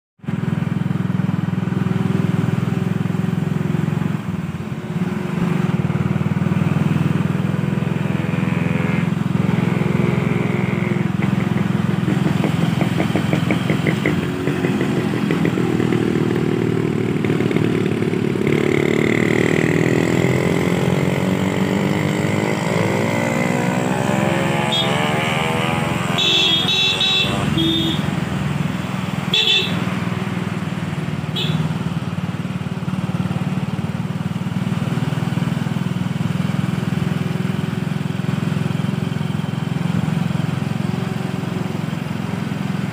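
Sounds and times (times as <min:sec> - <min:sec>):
motorcycle engine accelerating: 0:00.2 - 0:42.9.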